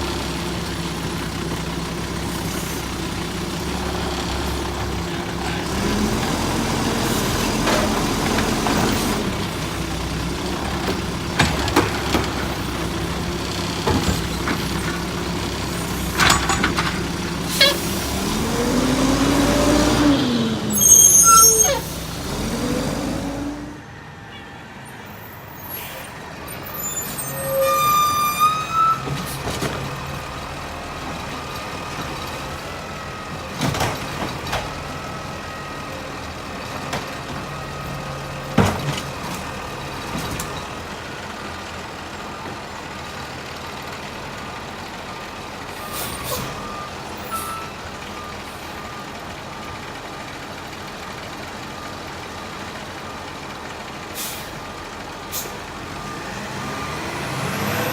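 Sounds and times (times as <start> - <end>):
garbage truck running: 0.0 - 24.2, 25.0 - 57.9.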